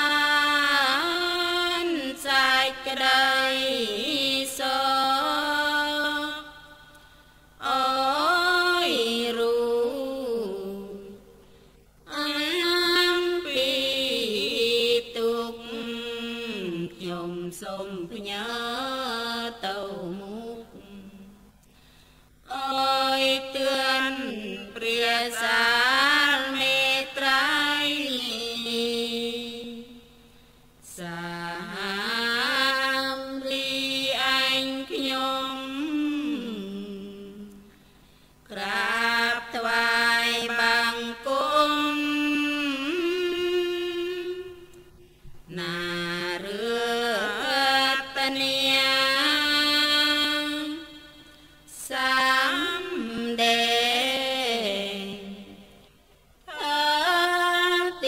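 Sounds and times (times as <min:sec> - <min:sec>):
person chanting melodically: 0:00.0 - 0:11.4, 0:12.0 - 0:21.4, 0:22.4 - 0:30.1, 0:30.8 - 0:37.7, 0:38.4 - 0:55.8, 0:56.4 - 0:58.0.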